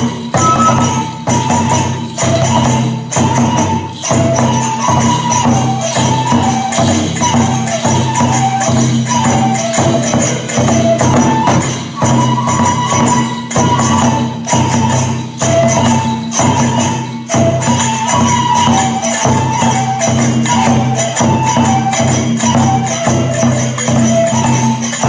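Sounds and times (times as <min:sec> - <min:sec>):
bamboo flute melody: 0:00.0 - 0:25.0
small hand cymbals clashing: 0:00.0 - 0:25.0.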